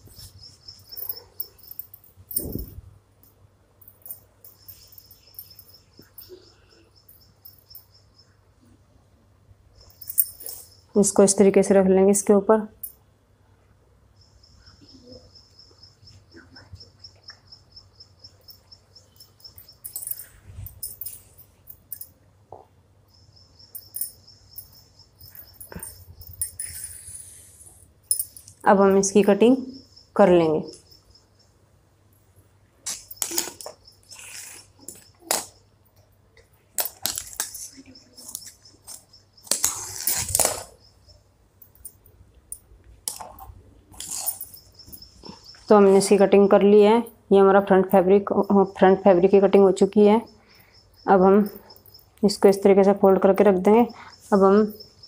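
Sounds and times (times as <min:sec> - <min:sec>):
cricket chirping: 0:00.0 - 0:08.8, 0:09.6 - 0:11.2, 0:14.0 - 0:55.0.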